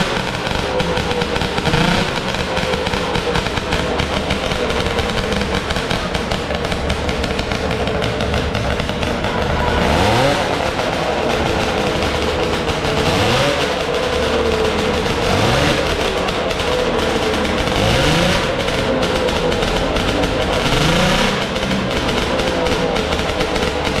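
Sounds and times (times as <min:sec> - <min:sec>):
race car engine idling and revving: 0:00.0 - 0:24.0.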